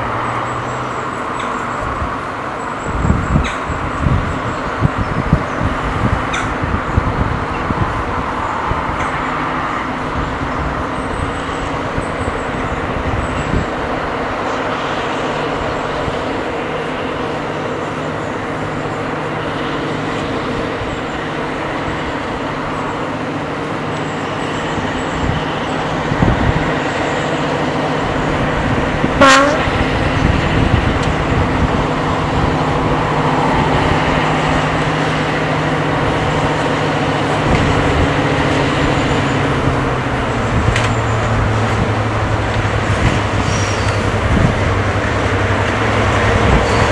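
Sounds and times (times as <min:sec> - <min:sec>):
diesel locomotive engine: 0:00.0 - 0:46.9.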